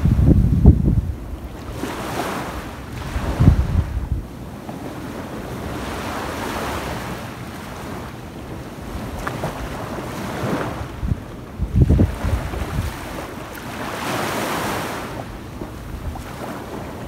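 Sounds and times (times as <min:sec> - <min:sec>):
waves washing on beach: 0:00.0 - 0:17.0
wind buffeting microphone: 0:00.0 - 0:17.0.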